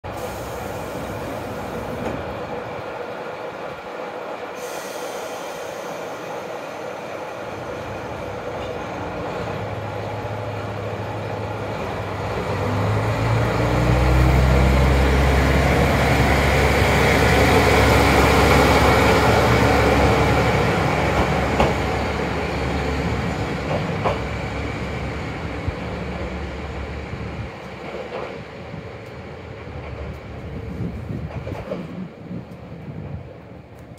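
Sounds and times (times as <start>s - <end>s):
diesel railcar engine: 0.0s - 33.9s.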